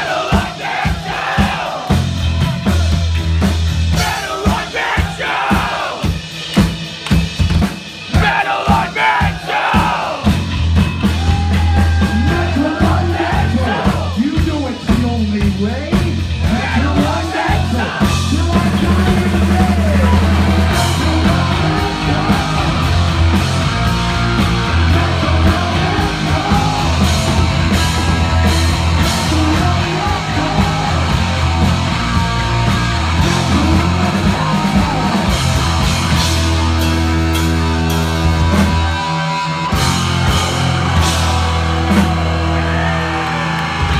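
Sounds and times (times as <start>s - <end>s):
heavy metal band playing: 0.0s - 43.9s.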